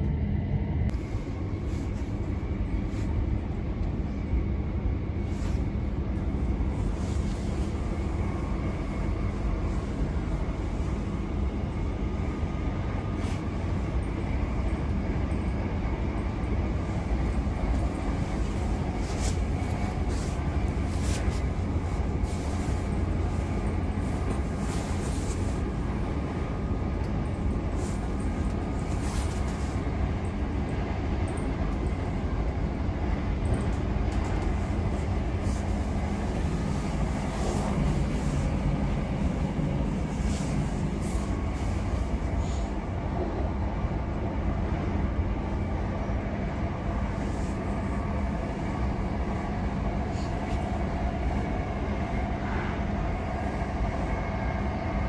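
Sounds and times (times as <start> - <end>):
low hum: 0.0 - 55.0
train wheels rumbling on rails: 0.0 - 55.0.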